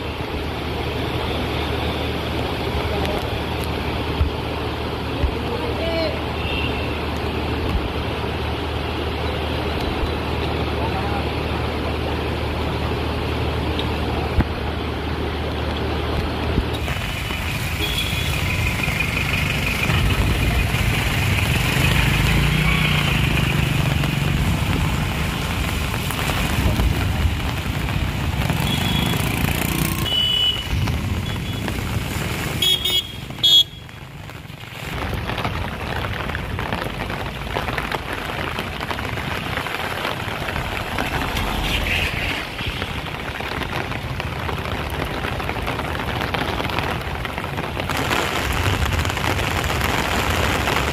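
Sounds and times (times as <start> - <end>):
heavy rain hiss: 0.0 - 50.9
tyres on wet road: 0.0 - 50.9.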